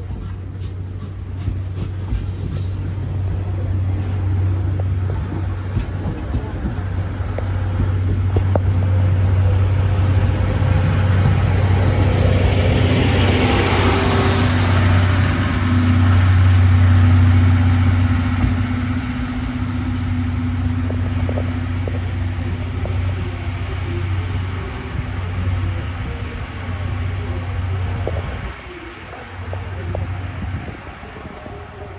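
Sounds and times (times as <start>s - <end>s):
steam locomotive rumbling: 0.0s - 31.9s.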